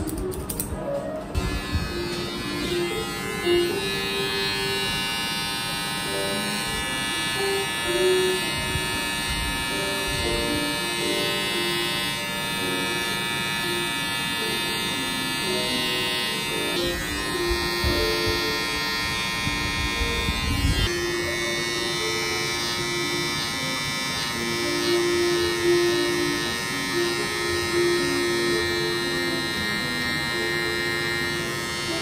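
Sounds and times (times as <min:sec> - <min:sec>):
electric hair trimmer buzzing: 0:00.0 - 0:32.0.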